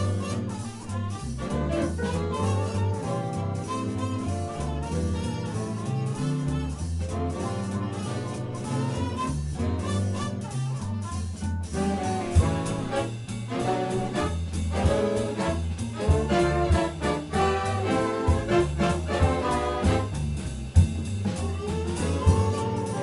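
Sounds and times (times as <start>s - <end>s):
drum accents: 0.0s - 23.0s
swing big band playing: 0.0s - 23.0s.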